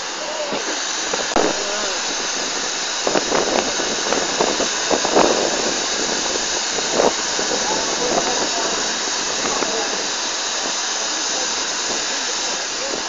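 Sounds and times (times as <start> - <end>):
steam locomotive venting steam: 0.0 - 13.0.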